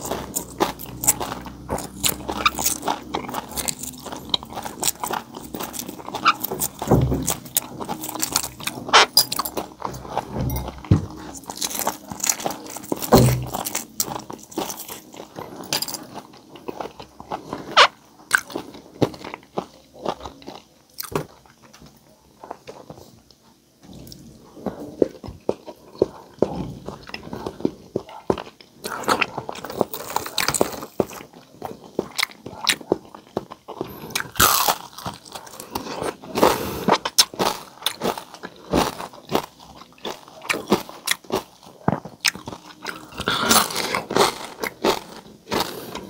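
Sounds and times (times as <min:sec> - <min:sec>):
man chewing crunchy food: 0:00.0 - 0:46.0.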